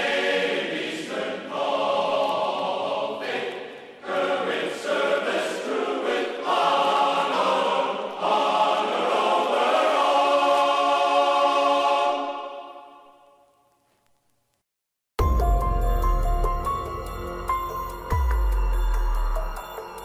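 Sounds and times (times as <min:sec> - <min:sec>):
choir singing held chords: 0:00.0 - 0:13.6, 0:15.2 - 0:20.0.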